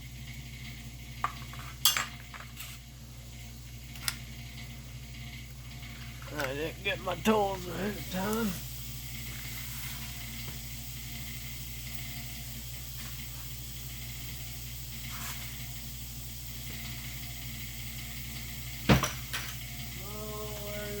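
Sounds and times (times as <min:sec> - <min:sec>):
room hum and hiss: 0:00.0 - 0:21.0.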